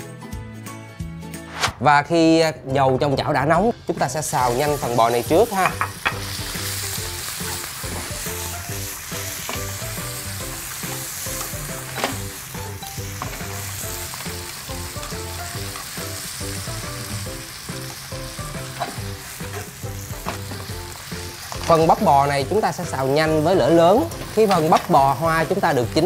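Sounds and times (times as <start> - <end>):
background music low notes: 0.0 - 26.0
beef sizzling in hot oil: 4.1 - 26.0.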